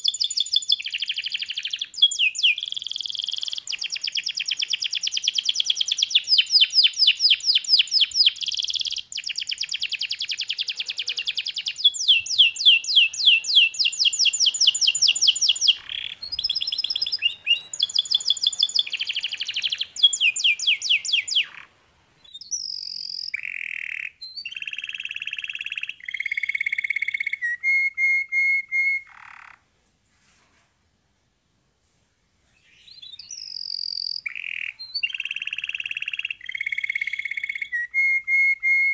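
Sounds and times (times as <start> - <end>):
canary singing trills: 0.0 - 29.6, 32.6 - 38.9.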